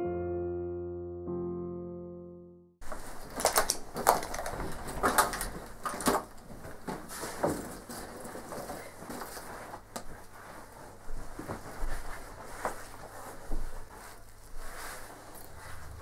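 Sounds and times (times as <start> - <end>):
quiet rustling: 2.8 - 16.0.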